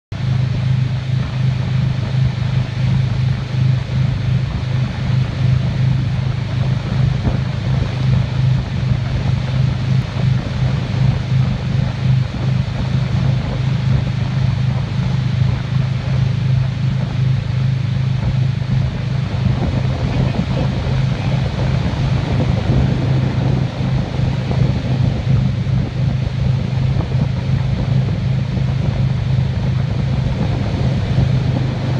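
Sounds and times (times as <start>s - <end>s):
boat engine droning: 0.1s - 31.9s
rush of churning wake: 0.2s - 31.9s
wind buffeting microphone: 0.2s - 31.9s.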